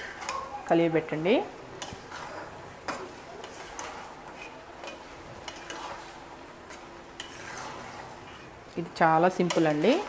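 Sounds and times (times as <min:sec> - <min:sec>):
spatula stirring thick food: 0:00.0 - 0:10.0.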